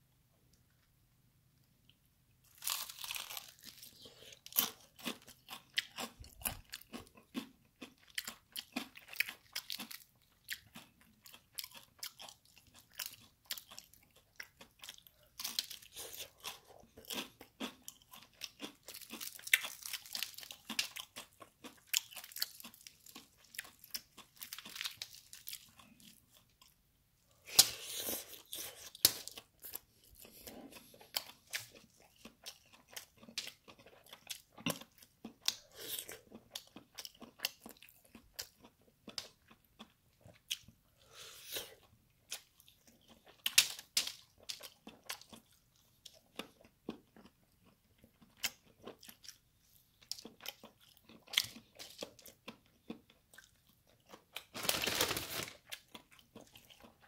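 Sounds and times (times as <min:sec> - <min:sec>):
chewing crispy fried chicken: 0:01.8 - 0:57.0.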